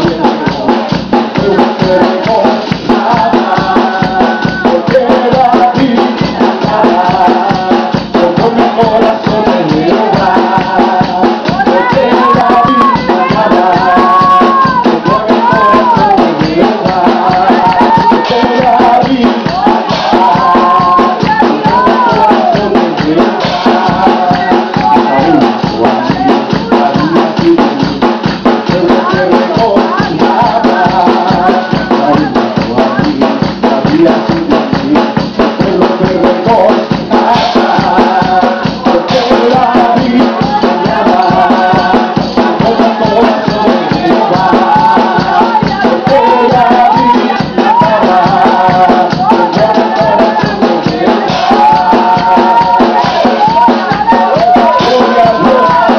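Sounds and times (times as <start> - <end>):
fast percussion beat: 0.0 - 55.9
man singing into a microphone: 0.0 - 55.9.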